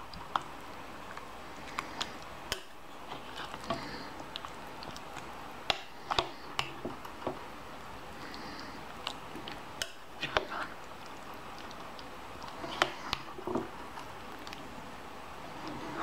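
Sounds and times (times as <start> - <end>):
wet squishing of soup: 0.0 - 16.0.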